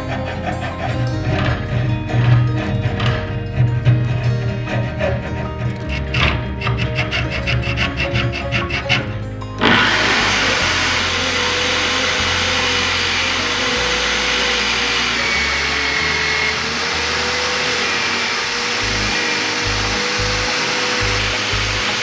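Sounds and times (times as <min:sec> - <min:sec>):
sanding disc grinding wood: 0:00.0 - 0:22.0.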